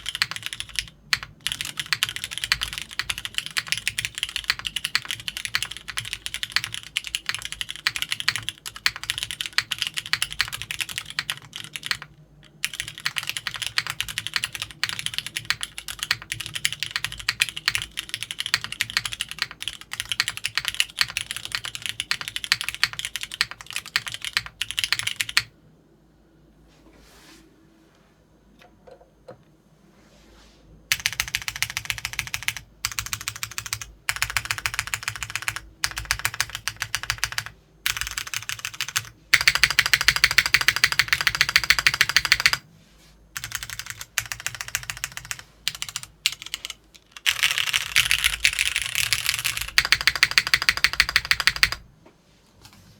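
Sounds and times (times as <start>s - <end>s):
fast typing on mechanical keyboard: 0.0s - 25.5s, 30.9s - 42.6s, 43.4s - 51.9s.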